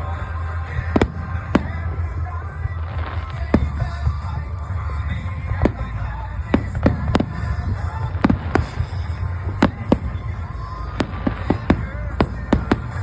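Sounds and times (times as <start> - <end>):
firework bangs: 0.0 - 13.0
low rumble: 0.0 - 13.0.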